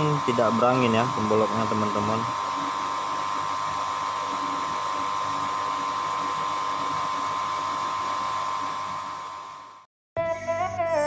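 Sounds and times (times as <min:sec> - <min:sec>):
whirring hum with high tone: 0:00.0 - 0:11.0.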